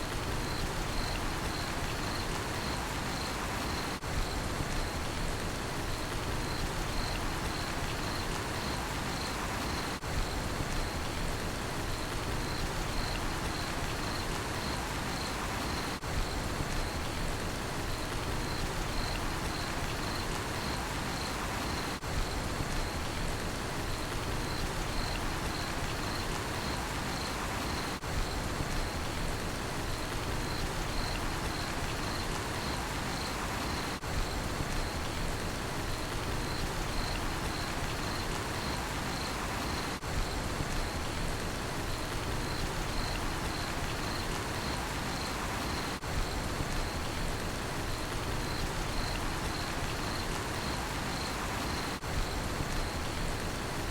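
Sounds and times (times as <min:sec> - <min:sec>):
steady rain falling: 0:00.0 - 0:53.9
cricket chirping: 0:00.2 - 0:05.1, 0:05.9 - 0:11.2, 0:12.0 - 0:17.2, 0:17.8 - 0:23.1, 0:23.9 - 0:29.2, 0:30.0 - 0:35.2, 0:35.9 - 0:40.2, 0:41.8 - 0:53.9.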